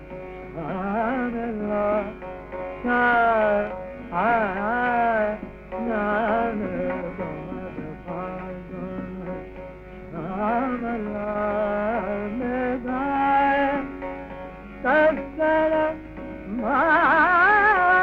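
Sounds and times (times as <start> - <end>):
indian classical melody: 0.0 - 18.0.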